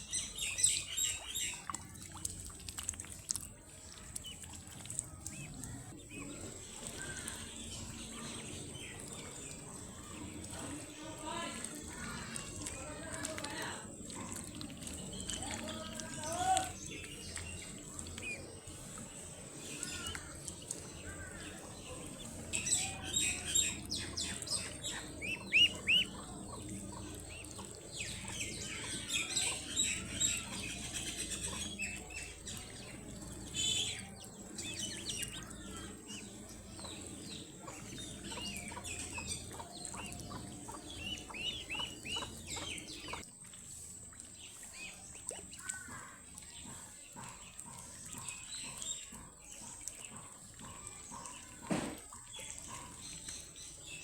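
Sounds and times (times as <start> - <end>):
ducklings peeping: 0.0 - 43.2, 44.3 - 54.0.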